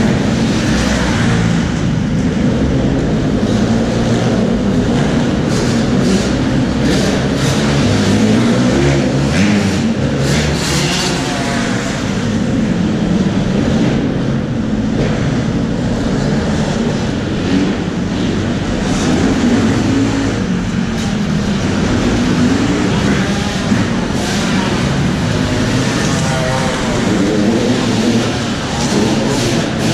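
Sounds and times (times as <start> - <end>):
other dirt bikes running: 0.0 - 29.9.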